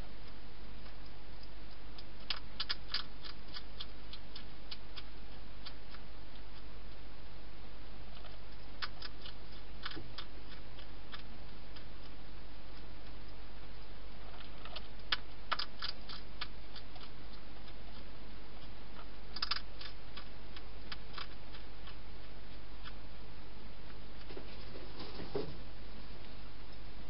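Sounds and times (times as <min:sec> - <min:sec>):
hedgehog feeding crunches: 0:00.0 - 0:25.5
steady hiss and low hum: 0:00.0 - 0:27.0.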